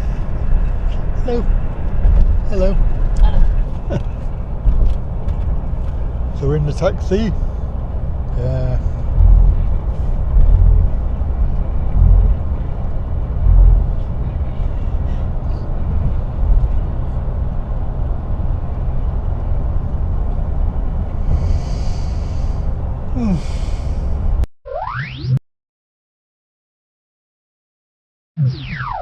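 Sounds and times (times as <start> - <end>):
car road noise rumble: 0.0 - 24.5.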